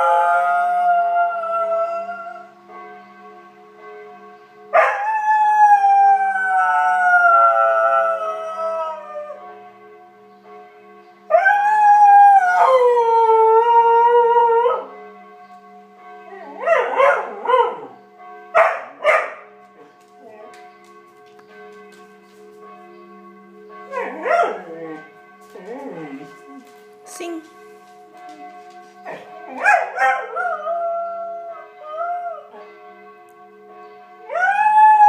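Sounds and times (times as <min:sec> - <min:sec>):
church bells ringing: 0:00.0 - 0:35.0.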